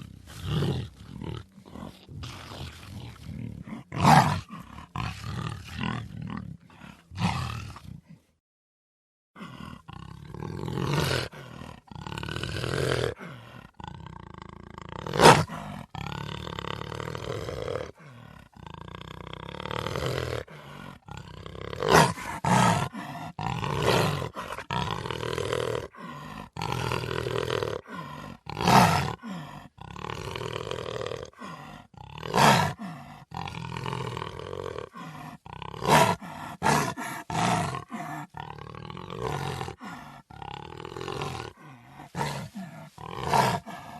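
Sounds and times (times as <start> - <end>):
big cat roaring and snarling: 0.0 - 8.2, 9.4 - 43.9.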